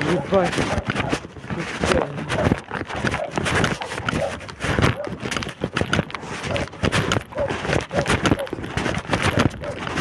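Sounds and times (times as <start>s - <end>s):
irregular footsteps and scuffing: 0.0s - 10.0s
wind rumbling on microphone: 0.0s - 10.0s.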